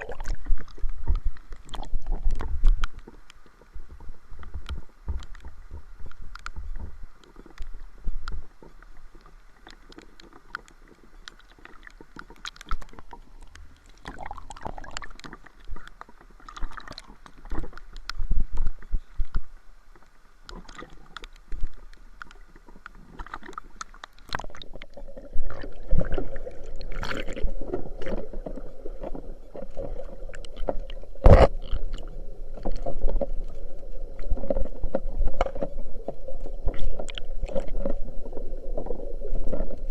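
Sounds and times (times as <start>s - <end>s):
rushing water: 0.0s - 4.3s, 9.0s - 39.9s
water sloshing and gurgling: 0.0s - 39.9s.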